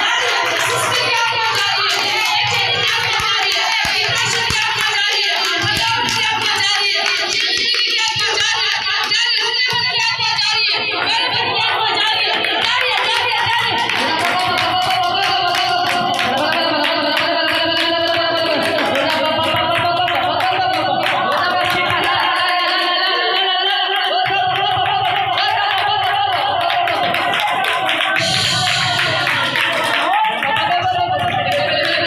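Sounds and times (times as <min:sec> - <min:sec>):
rhythmic clapping: 0:00.0 - 0:32.0
worship singing: 0:00.0 - 0:32.0.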